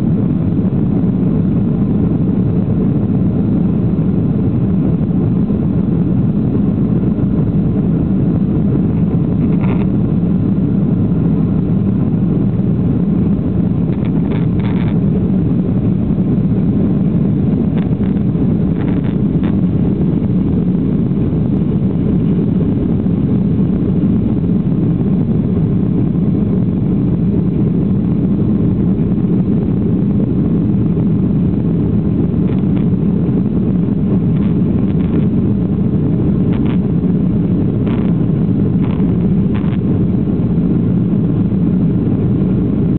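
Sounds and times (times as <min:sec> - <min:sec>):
airliner cabin roar: 0:00.0 - 0:42.9.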